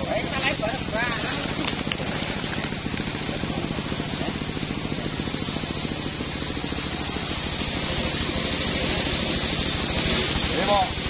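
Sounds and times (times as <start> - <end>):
chainsaw engine idling: 0.0 - 11.0.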